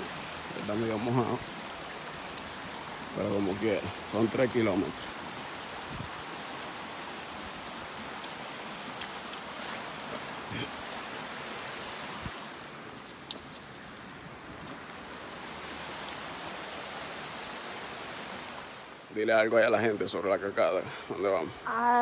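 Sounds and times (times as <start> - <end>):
creek water rushing over stones: 0.0 - 21.6.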